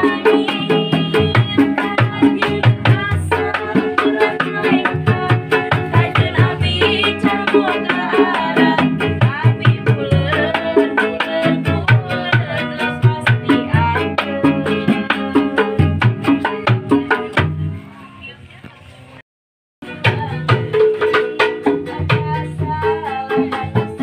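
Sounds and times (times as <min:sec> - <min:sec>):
person singing: 0:00.0 - 0:17.4, 0:19.8 - 0:24.0
hand drums beat: 0:00.0 - 0:17.8, 0:19.8 - 0:24.0.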